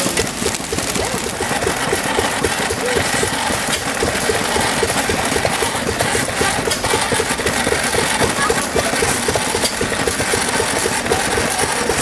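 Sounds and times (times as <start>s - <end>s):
belt-driven machinery clatter: 0.0s - 12.0s
stationary engine running: 0.0s - 12.0s.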